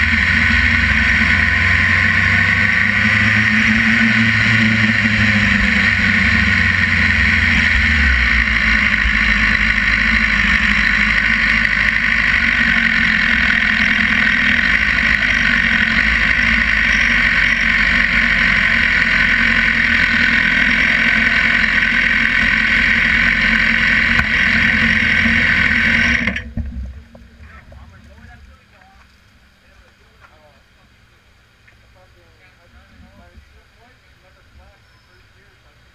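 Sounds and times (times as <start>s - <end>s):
motorcycle engine idling: 0.0s - 35.8s.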